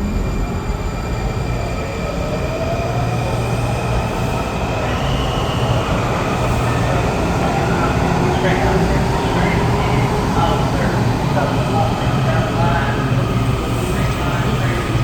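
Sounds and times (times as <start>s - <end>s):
subway train rumbling on rails: 0.0s - 15.0s.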